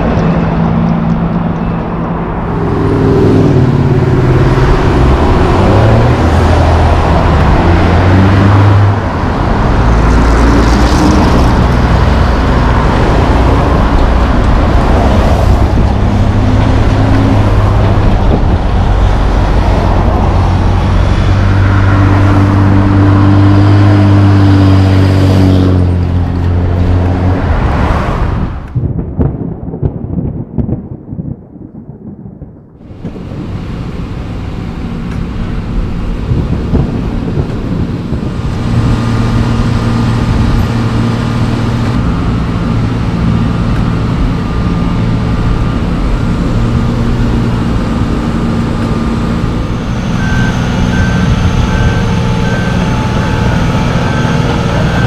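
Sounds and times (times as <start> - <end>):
trucks and cars passing: 0.0 - 30.4, 32.8 - 55.0.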